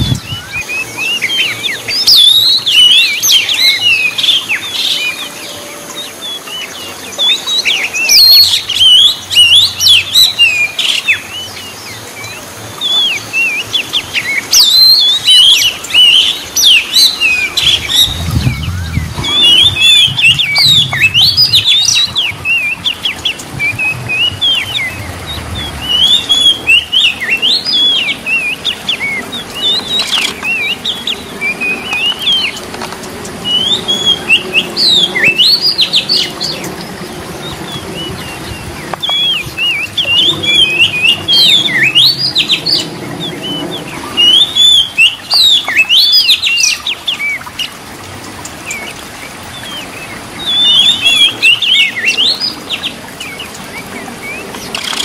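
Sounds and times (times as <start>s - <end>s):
bird singing whistles and chirps: 0.0s - 32.7s, 33.4s - 36.8s, 37.4s - 47.7s, 49.5s - 55.0s.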